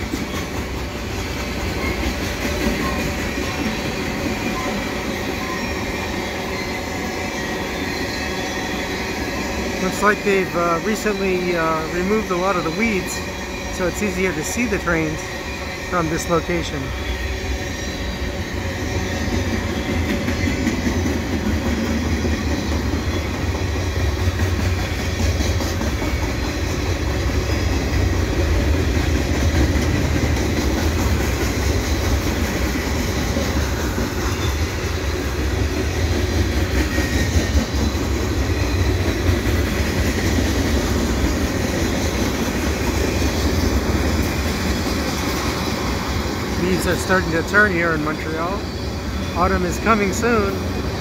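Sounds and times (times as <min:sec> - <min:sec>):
freight train rumbling past: 0:00.0 - 0:51.0.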